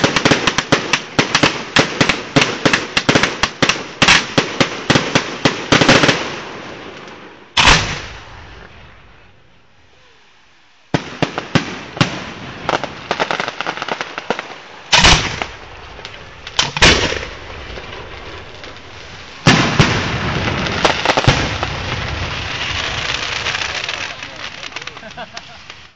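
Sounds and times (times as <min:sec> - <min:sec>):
fireworks bangs: 0:00.0 - 0:09.5, 0:10.9 - 0:25.9
fireworks cracking and popping: 0:00.0 - 0:09.5, 0:10.9 - 0:25.9
fireworks crackling barrage: 0:00.0 - 0:25.9.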